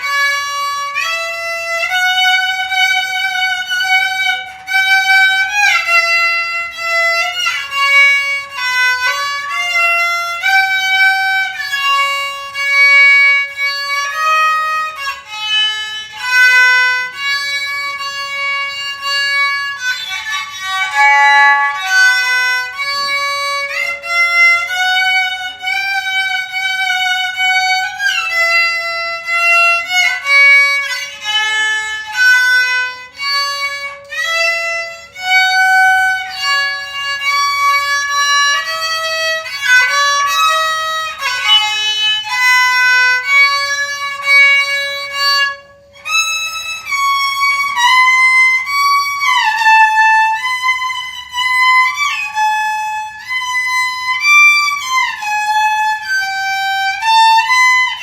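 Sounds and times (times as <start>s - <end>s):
bowed string instrument melody: 0.0s - 58.0s.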